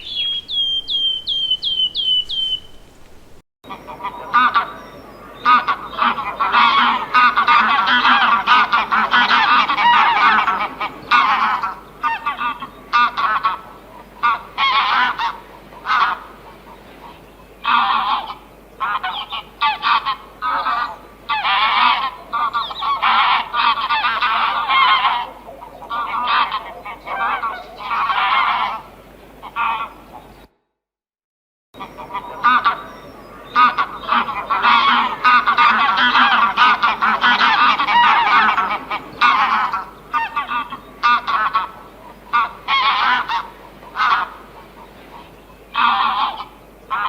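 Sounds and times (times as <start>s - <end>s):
flock of birds honking: 0.0s - 4.7s, 5.4s - 16.3s, 17.1s - 30.0s, 31.8s - 47.0s.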